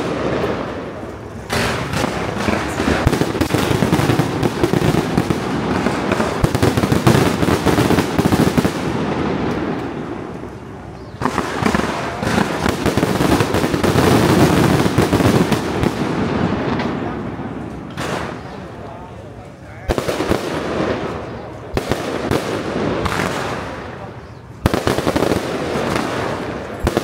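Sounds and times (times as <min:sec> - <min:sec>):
firecrackers crackling: 0:00.0 - 0:27.0.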